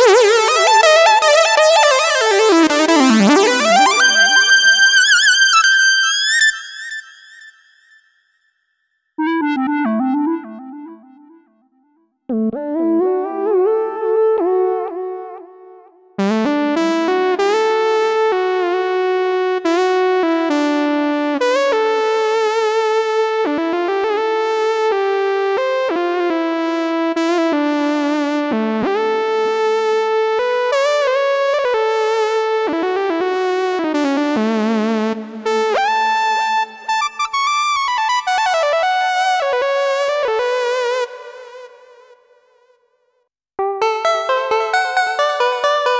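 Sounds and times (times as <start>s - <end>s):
synthesizer notes and chords: 0.0s - 7.8s, 9.2s - 11.7s, 12.3s - 42.4s, 43.6s - 45.9s.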